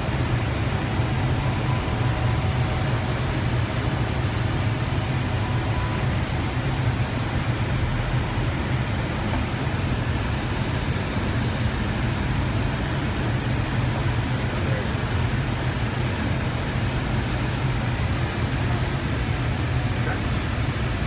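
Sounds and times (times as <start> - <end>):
aircraft cockpit engine noise: 0.0 - 21.0.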